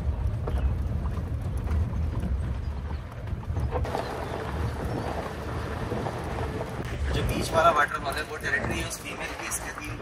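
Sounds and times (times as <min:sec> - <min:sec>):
jeep engine and road rumble: 0:00.0 - 0:10.0
wind and tyre noise: 0:00.0 - 0:10.0.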